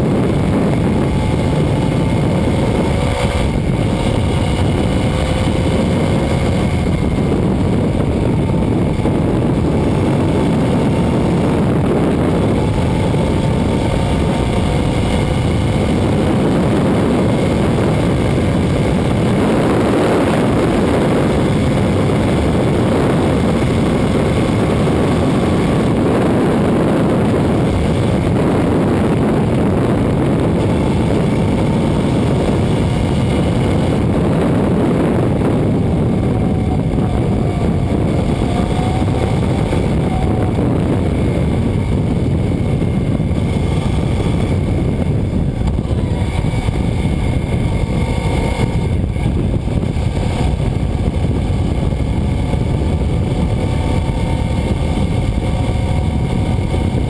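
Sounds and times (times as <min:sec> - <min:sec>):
loud wind: 0:00.0 - 0:57.0
motorcycle engine running: 0:00.0 - 0:57.0.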